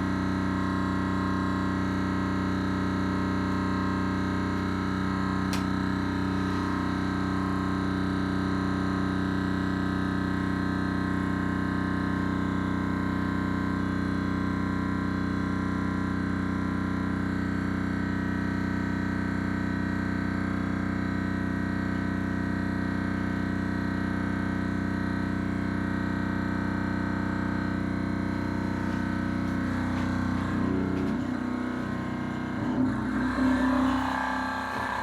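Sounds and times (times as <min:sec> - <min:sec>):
engine drone with held tones: 0:00.0 - 0:35.0.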